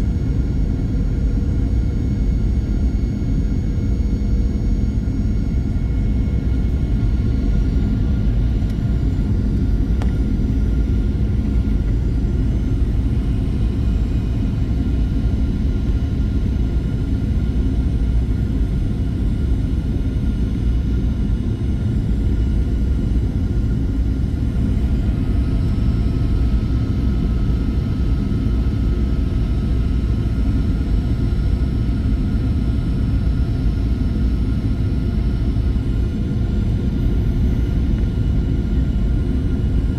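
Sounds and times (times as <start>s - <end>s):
airplane cabin rumble: 0.0s - 39.9s
faint jet engine whine: 0.0s - 39.9s.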